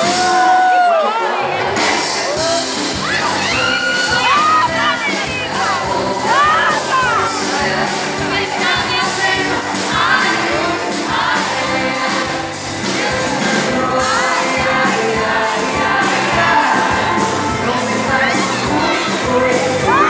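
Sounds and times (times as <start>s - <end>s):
audience singing along: 0.0s - 20.0s
band with guitar and drums: 0.0s - 20.0s.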